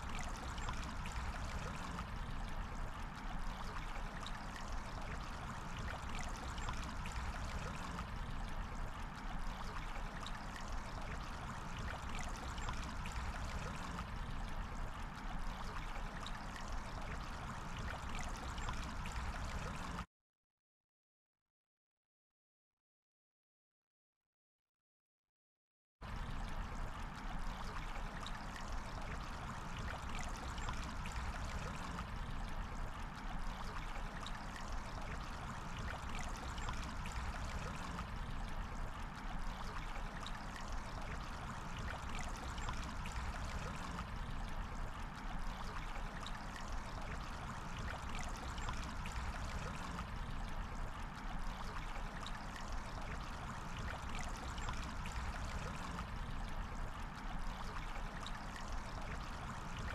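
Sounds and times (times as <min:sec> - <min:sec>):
river water flowing: 0:00.0 - 0:20.0, 0:26.0 - 0:59.9.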